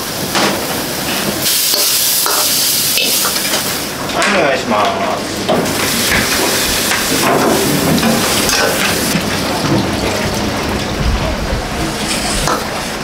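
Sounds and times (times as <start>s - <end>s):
frying hiss: 0.0s - 13.0s.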